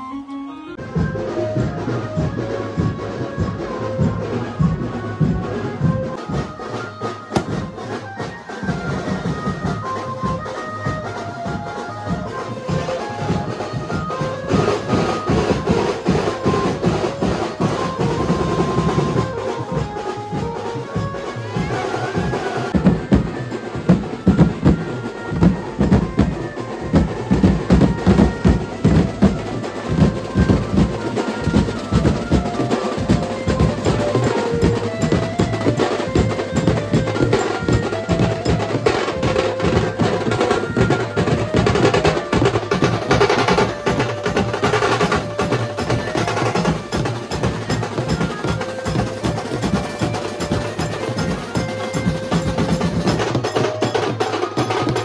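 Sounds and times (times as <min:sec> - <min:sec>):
side drums beaten fast: 0:00.8 - 0:55.0.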